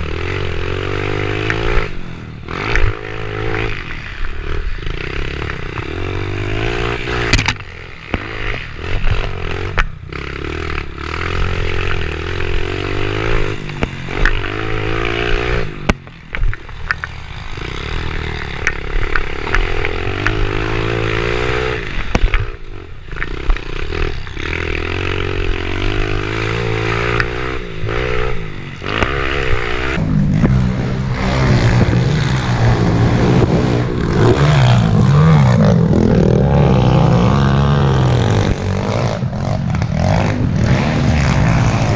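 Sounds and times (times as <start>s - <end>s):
pit bike engines revving: 0.0s - 41.9s.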